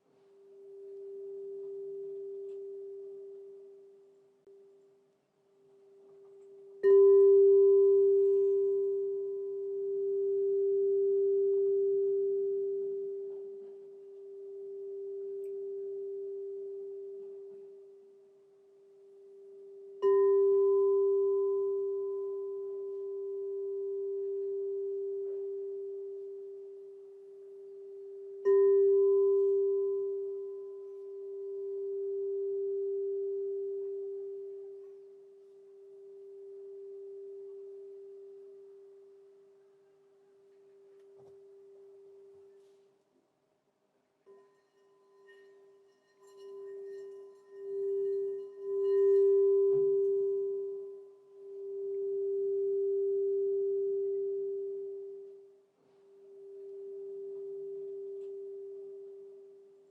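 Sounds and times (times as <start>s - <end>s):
singing bowl ringing: 0.4s - 4.0s, 6.2s - 39.5s, 44.2s - 59.9s.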